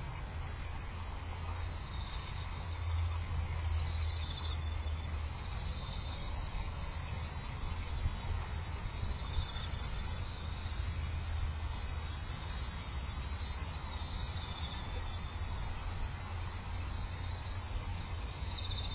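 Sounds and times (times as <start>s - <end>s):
insects chirring: 0.0s - 18.9s.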